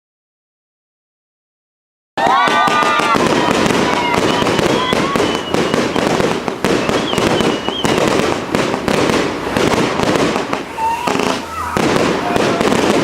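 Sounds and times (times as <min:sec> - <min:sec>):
fireworks crackling and banging: 0:02.2 - 0:13.0.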